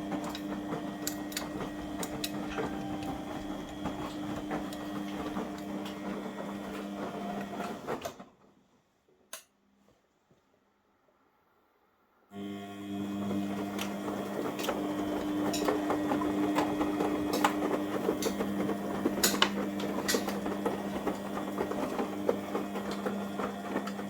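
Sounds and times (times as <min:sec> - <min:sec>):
washing machine motor hum: 0:00.0 - 0:08.0, 0:12.4 - 0:24.0.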